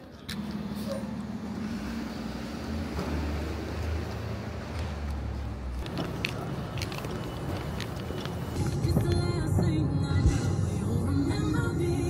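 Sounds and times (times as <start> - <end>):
cars passing: 0.0 - 12.0
low vehicle engine rumble: 0.0 - 12.0.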